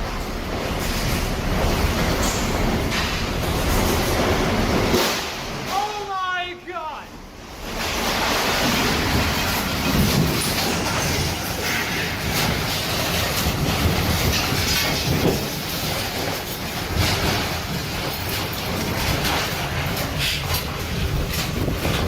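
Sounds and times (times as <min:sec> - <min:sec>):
tornado wind roaring: 0:00.0 - 0:06.5, 0:07.1 - 0:22.0.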